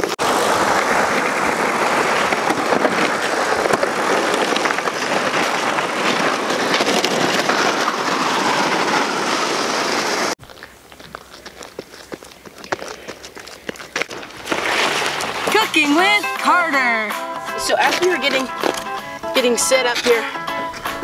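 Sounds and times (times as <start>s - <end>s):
sled scraping across ice: 0.0s - 21.0s.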